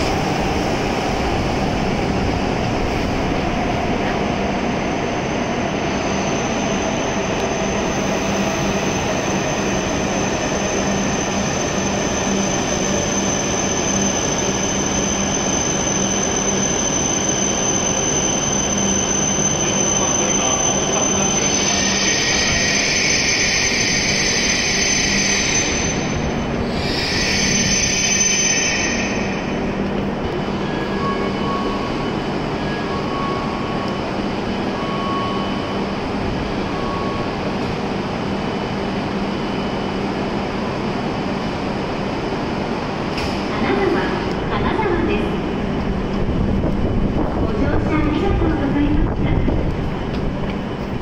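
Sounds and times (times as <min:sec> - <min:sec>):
train rumbling with high whine: 0:00.0 - 0:51.0.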